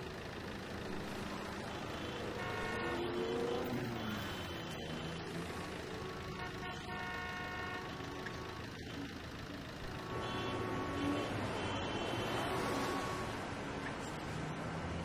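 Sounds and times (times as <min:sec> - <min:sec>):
traffic rumble: 0:00.0 - 0:15.0
car horns: 0:00.9 - 0:13.5.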